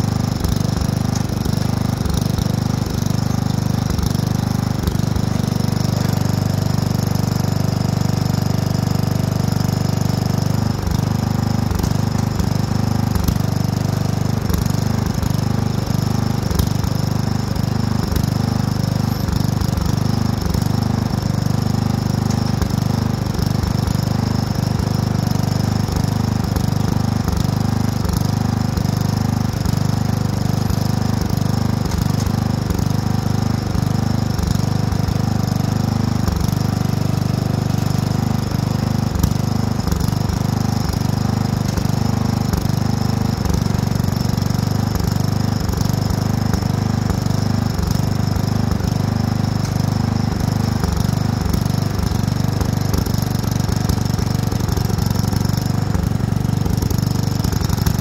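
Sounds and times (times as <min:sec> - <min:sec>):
lawn tractor engine droning: 0:00.0 - 0:58.0.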